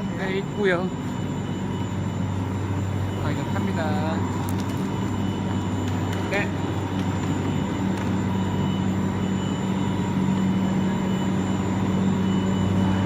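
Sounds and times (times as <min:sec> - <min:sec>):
drive machinery humming: 0:00.0 - 0:13.0.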